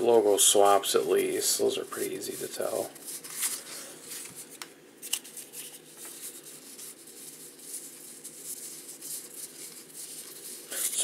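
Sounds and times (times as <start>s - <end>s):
trading cards rustling: 1.2s - 11.0s.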